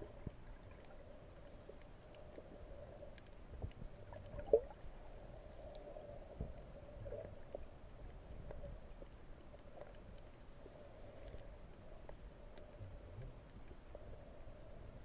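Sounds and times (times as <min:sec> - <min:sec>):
faint underwater water movement: 0:00.0 - 0:15.0.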